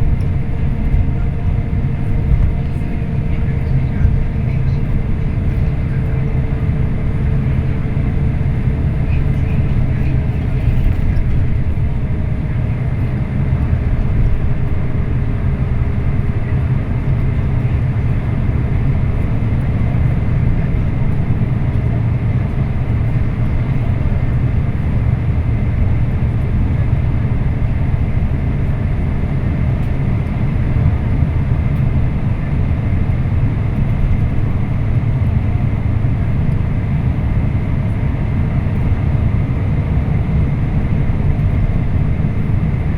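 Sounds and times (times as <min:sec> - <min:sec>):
coach engine and road rumble: 0:00.0 - 0:42.9.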